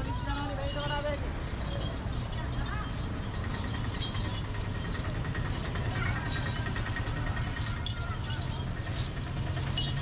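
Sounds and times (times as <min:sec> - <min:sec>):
metal chains clinking: 0:00.0 - 0:10.0.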